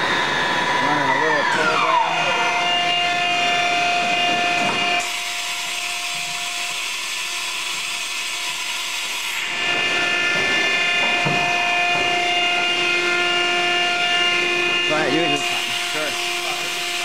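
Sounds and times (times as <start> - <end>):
machining center whine: 0.0 - 17.0.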